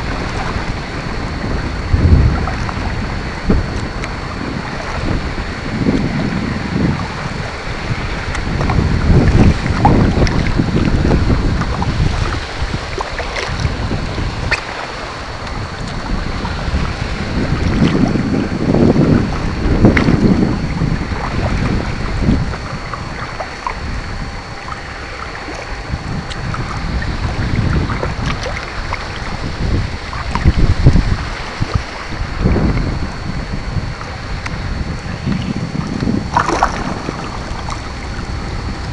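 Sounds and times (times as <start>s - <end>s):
water lapping against kayak: 0.0s - 38.9s
wind rumbling on microphone: 0.0s - 38.9s.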